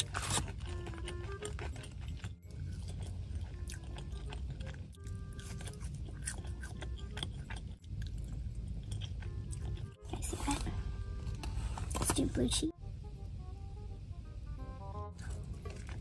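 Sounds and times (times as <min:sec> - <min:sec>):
chewing and munching: 0:00.0 - 0:12.2, 0:15.2 - 0:16.0
soft background music: 0:00.0 - 0:16.0.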